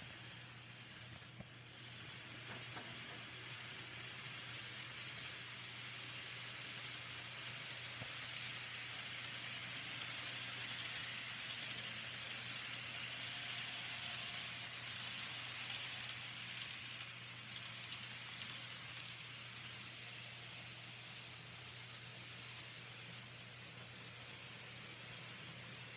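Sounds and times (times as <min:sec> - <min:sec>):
low electrical hum: 0:00.0 - 0:25.9
model train whirring: 0:00.0 - 0:25.9.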